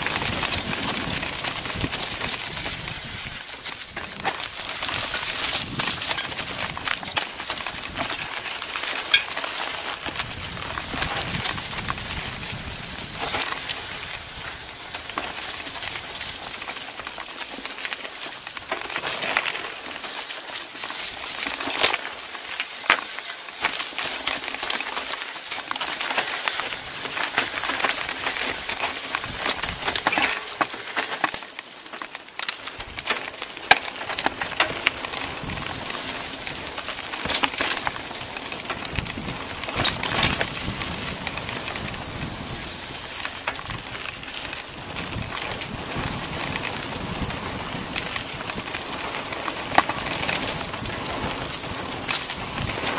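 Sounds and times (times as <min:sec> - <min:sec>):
bike clicks and knocks: 0:00.0 - 0:52.9
bike tyres crunching over dirt: 0:00.0 - 0:52.9.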